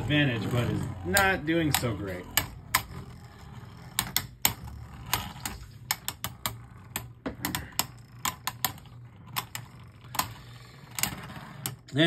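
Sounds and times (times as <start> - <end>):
spinning tops clacking: 0.0 - 12.0.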